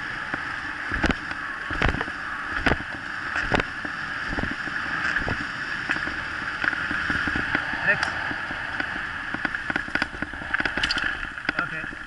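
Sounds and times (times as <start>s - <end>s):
scooter tyre and wind rush: 0.0s - 12.0s.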